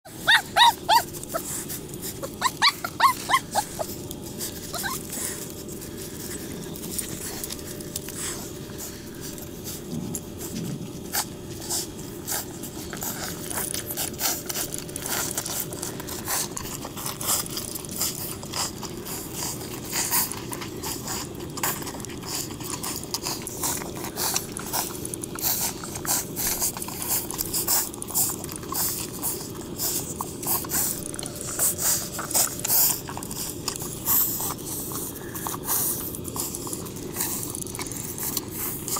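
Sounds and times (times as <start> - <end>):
puppies suckling: 0.0 - 38.9.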